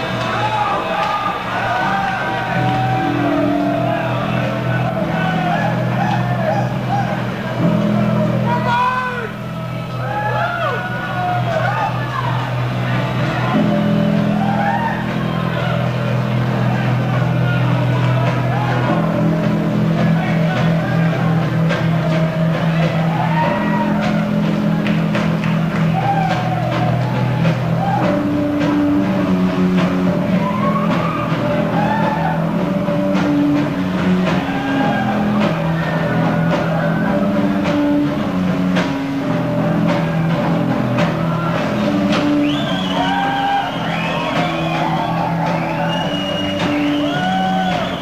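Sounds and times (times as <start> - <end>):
live rock band playing: 0.0 - 48.0.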